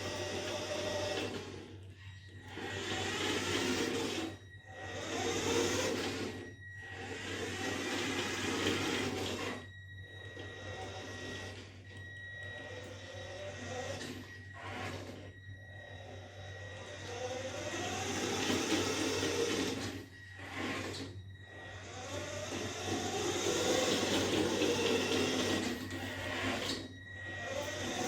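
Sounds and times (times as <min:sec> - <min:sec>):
toy car motor whirring: 0:00.0 - 0:28.0.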